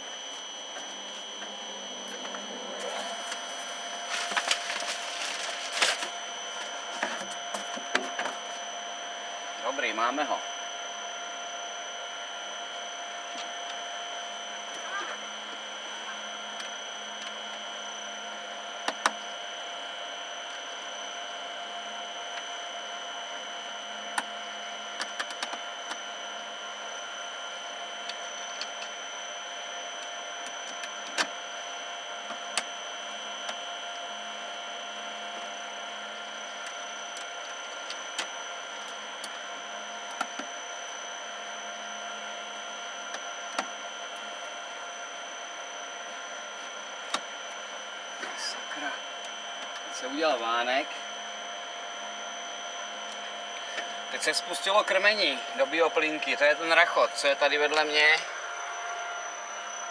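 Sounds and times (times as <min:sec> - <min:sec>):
high whining tones: 0:00.0 - 0:59.9
steady hum: 0:00.0 - 0:59.9.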